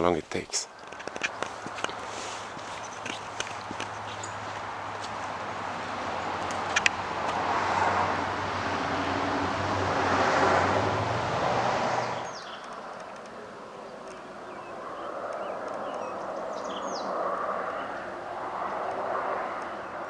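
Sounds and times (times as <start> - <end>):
vehicle passing on highway: 0.7 - 20.0.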